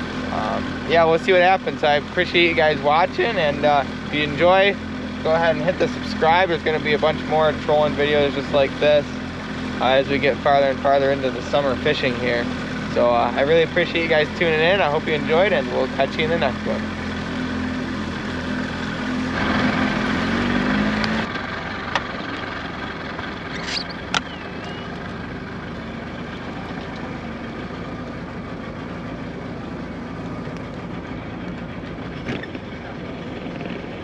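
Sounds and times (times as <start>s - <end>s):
boat engine running: 0.0s - 34.0s
wind: 0.0s - 34.0s.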